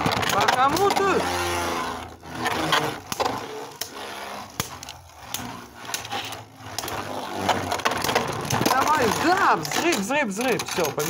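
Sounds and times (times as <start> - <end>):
spinning tops whirring: 0.0 - 11.0.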